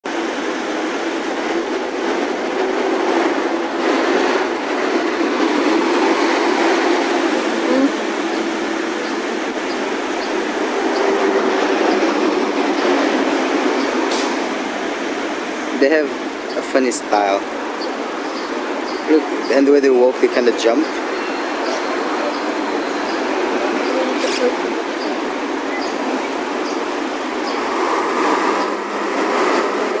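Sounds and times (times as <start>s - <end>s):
vehicle traffic rumble: 0.0s - 30.0s.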